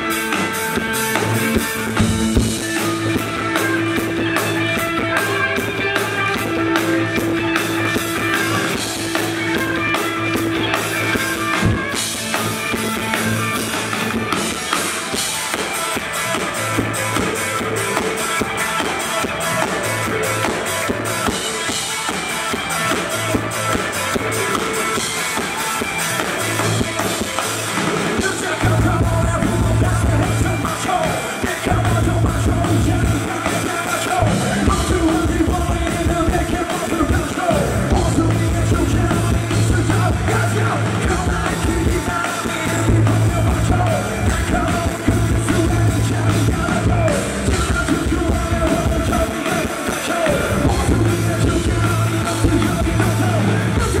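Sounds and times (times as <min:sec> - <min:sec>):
bass guitar: 0:00.0 - 0:54.0
drum kit: 0:00.0 - 0:54.0
electric guitars: 0:00.0 - 0:54.0
person singing: 0:00.0 - 0:54.0.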